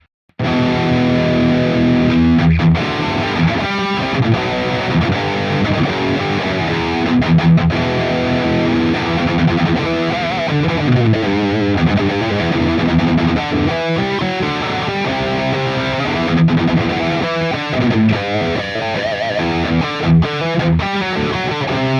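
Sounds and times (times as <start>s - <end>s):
distorted electric guitar: 0.0s - 21.9s.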